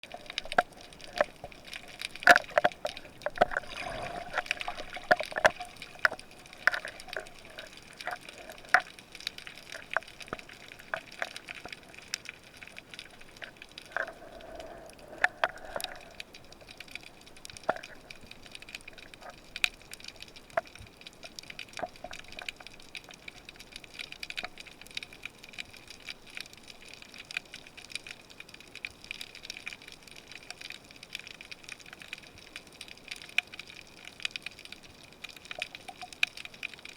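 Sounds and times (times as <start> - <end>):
underwater moving water: 0.0 - 36.9
underwater sharp clicks and crackles: 0.0 - 36.9.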